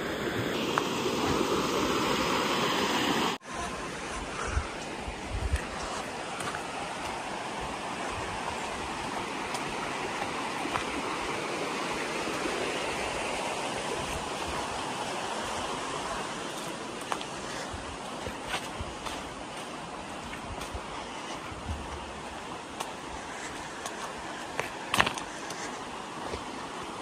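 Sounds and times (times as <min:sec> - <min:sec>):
stream running over rocks: 0:00.0 - 0:27.0.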